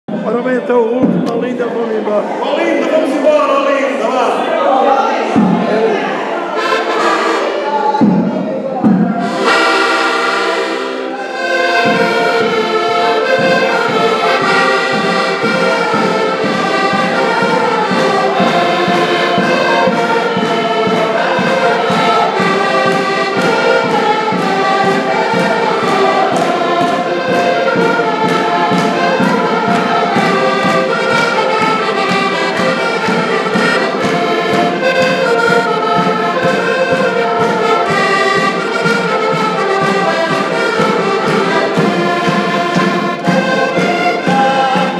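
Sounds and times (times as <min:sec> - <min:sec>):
accordions playing folk dance tune: 0:00.1 - 0:44.9.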